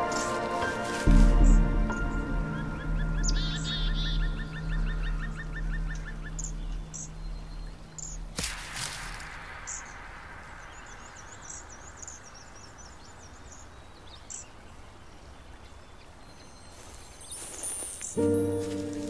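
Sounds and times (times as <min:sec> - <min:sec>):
low steady hiss: 0:00.0 - 0:19.0
high bird chirps: 0:01.2 - 0:19.0.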